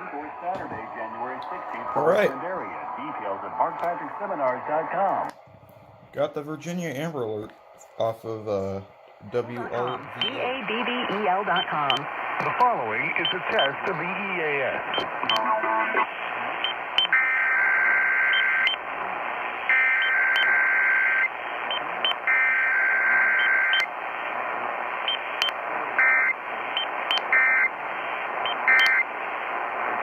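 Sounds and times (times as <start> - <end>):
radio static: 0.0 - 30.0.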